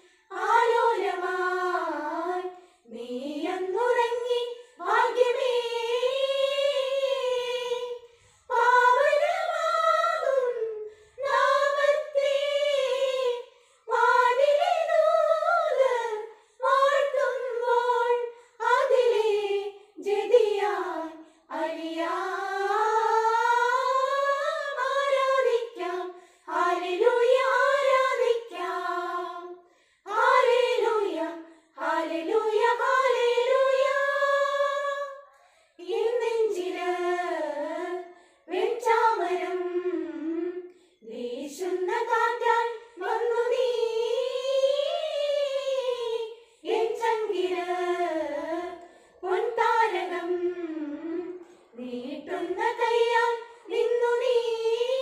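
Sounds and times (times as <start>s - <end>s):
women singing unaccompanied: 0.0s - 55.0s.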